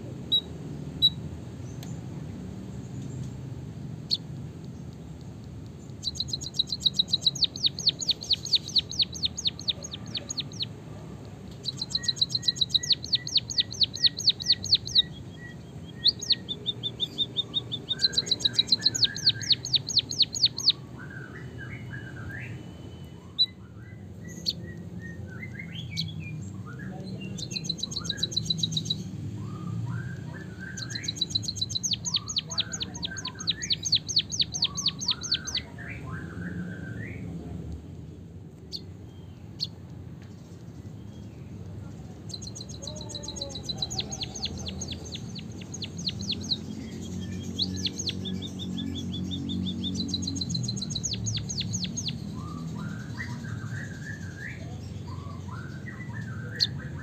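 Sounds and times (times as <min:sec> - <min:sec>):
soft low bird twittering: 0:04.0 - 0:37.5, 0:38.6 - 0:57.0
bird singing rapid trills: 0:05.7 - 0:36.7, 0:40.4 - 0:57.0.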